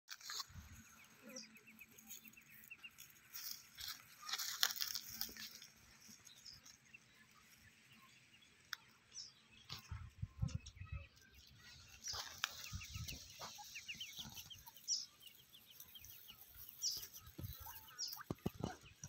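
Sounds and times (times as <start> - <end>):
dry grass rustling and crackling: 0.1 - 19.0.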